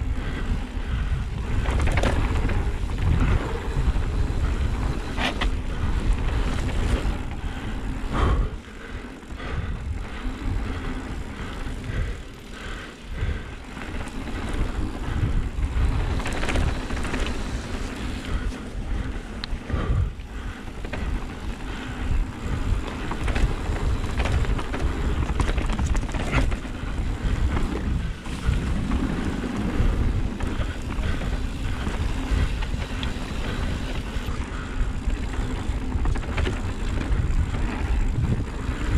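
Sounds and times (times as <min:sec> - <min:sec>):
wind rushing over microphone: 0:00.0 - 0:08.7, 0:09.4 - 0:38.9
tyres on dirt and rocks: 0:00.0 - 0:09.3, 0:09.9 - 0:19.6, 0:20.2 - 0:38.9
bike knocks and rattles: 0:00.2 - 0:08.5, 0:13.2 - 0:19.2, 0:19.8 - 0:38.9.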